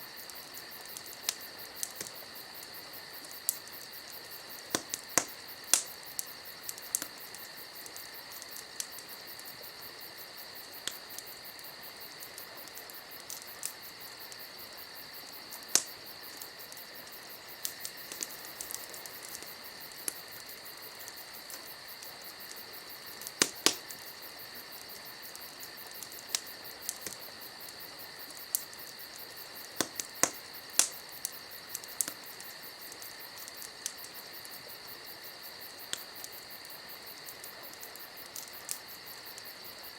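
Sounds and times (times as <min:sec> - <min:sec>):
steady high-pitched hiss: 0:00.0 - 0:39.9
wood fire crackling and popping: 0:00.0 - 0:39.9.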